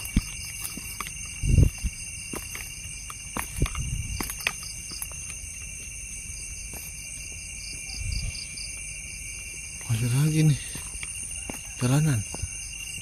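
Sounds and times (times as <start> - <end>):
fast pulsing insect call: 0.0 - 13.0
insects trilling: 0.0 - 13.0.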